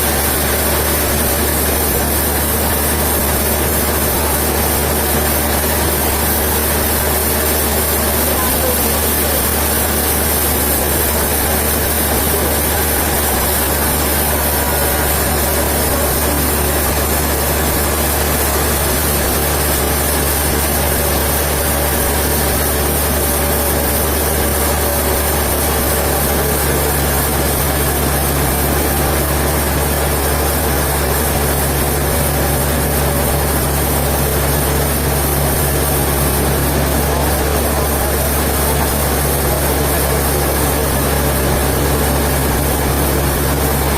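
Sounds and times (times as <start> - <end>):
higher machine hum: 0.0 - 43.9
sawmill machinery humming: 0.0 - 43.9.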